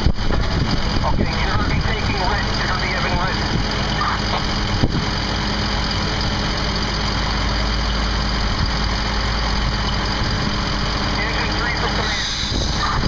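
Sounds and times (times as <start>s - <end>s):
fire engine motor humming: 0.0s - 13.0s.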